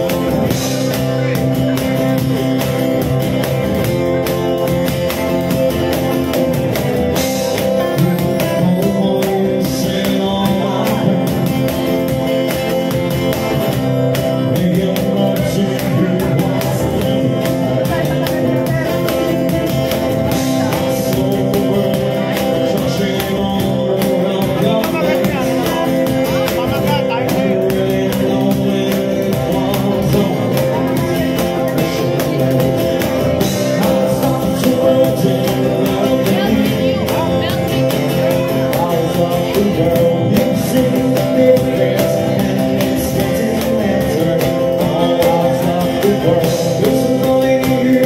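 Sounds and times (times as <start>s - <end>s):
acoustic guitars strumming: 0.0s - 48.0s
man singing: 0.0s - 48.0s.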